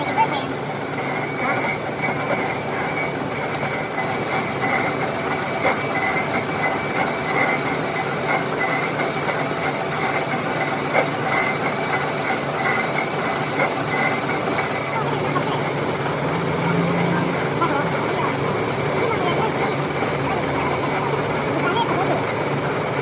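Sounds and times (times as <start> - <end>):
metal lathe cutting: 0.0 - 23.0.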